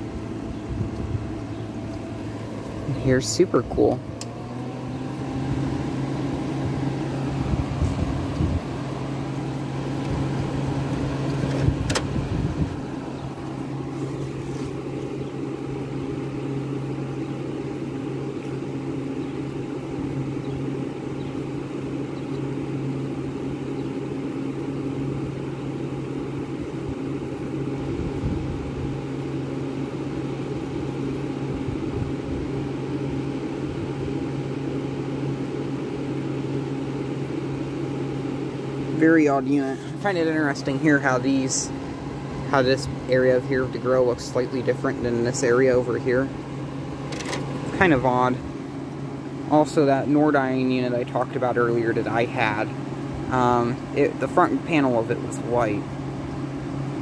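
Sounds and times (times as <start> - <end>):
air conditioner compressor hum: 0.0 - 57.0
blower fan rushing: 0.0 - 57.0.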